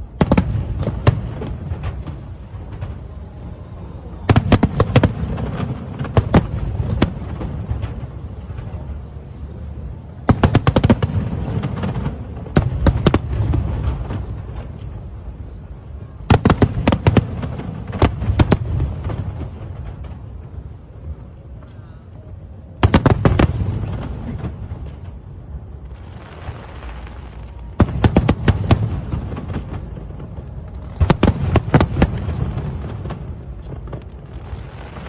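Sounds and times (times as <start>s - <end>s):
fireworks banging: 0.0s - 21.2s, 22.5s - 35.0s.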